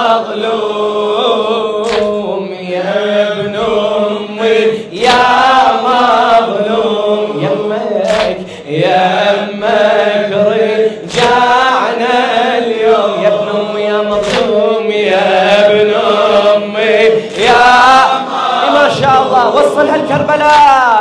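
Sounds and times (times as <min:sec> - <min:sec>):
man chanting a lament: 0:00.0 - 0:21.0.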